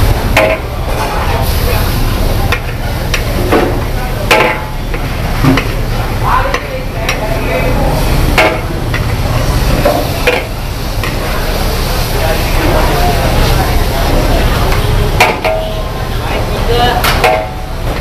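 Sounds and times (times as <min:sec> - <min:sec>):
noodles sizzling: 0:00.0 - 0:18.0.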